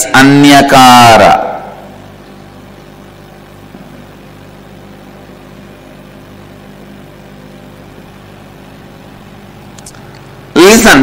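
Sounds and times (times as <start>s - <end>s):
hall room hum: 0.0s - 11.0s.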